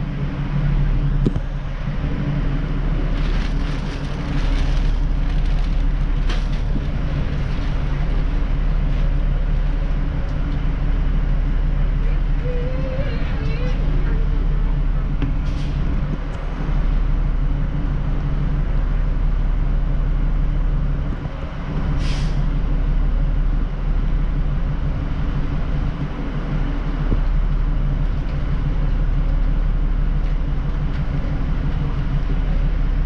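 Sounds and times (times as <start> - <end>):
train engine idling: 0.0 - 33.0.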